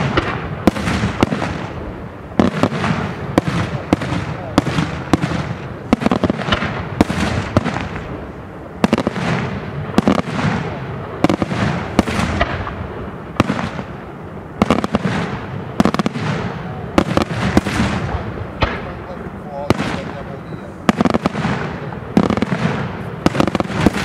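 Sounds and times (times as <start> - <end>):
fireworks bangs with echo: 0.0 - 24.0.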